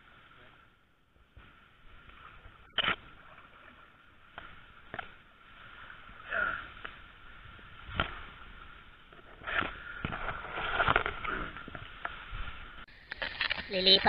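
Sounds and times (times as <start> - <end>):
tall grass rustling: 0.0 - 14.0.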